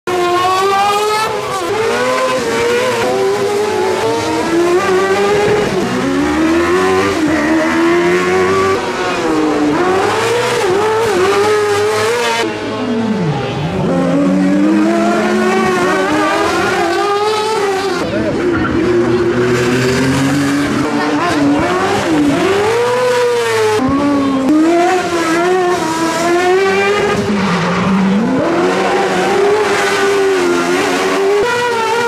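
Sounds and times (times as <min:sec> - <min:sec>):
rally car engines revving: 0:00.1 - 0:32.0.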